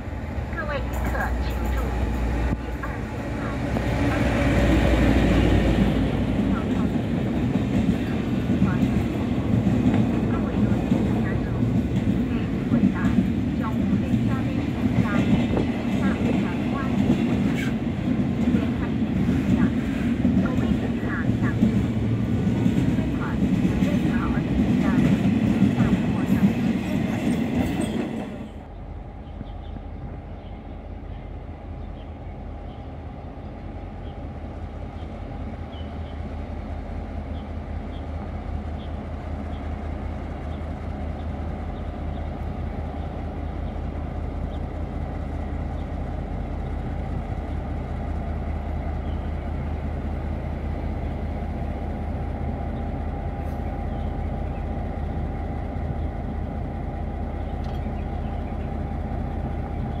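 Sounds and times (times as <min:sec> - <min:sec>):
diesel locomotive engine droning: 0:00.0 - 1:00.0.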